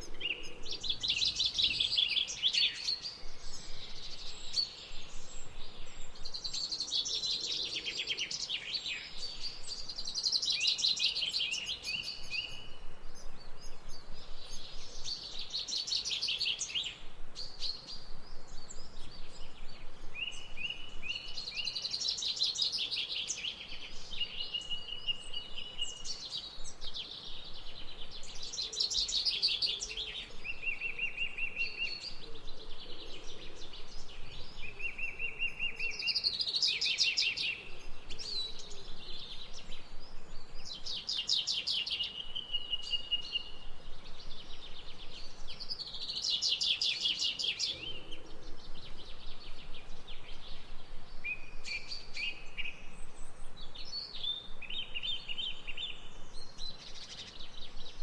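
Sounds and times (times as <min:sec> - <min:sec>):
songbirds singing and chirping: 0:00.0 - 0:58.0.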